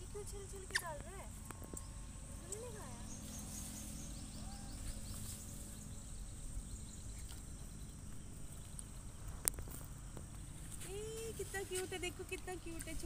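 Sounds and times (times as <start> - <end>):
faint high insect buzz: 0.0 - 13.0
low steady rumble: 0.0 - 13.0.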